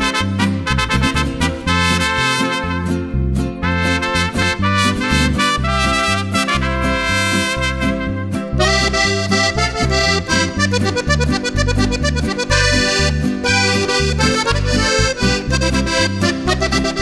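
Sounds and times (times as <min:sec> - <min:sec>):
accordion melody: 0:00.0 - 0:17.0
bass line: 0:00.0 - 0:17.0.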